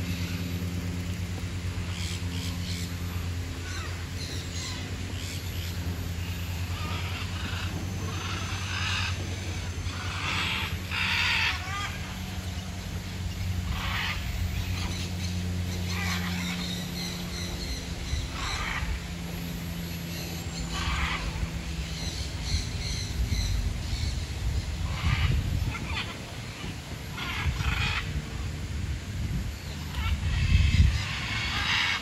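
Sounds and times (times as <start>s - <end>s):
steady low hum: 0.0s - 32.0s
waterbirds calling: 0.0s - 32.0s.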